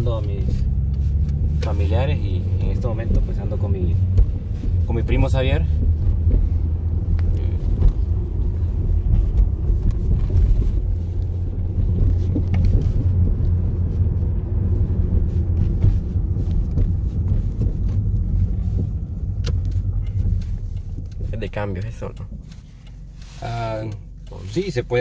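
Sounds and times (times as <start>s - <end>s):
car engine rumble: 0.0s - 25.0s
road noise inside car: 0.0s - 25.0s.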